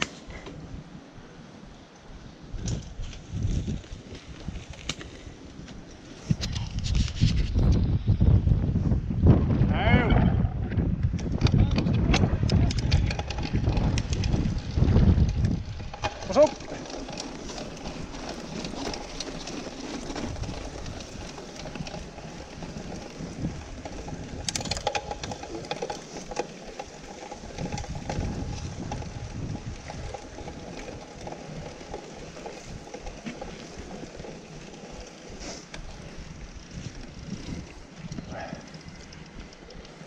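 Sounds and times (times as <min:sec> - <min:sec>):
bike tyres on stony trail: 0:00.0 - 0:09.6, 0:10.7 - 0:40.0
bike rattling and clicking: 0:01.9 - 0:08.0, 0:10.7 - 0:40.0.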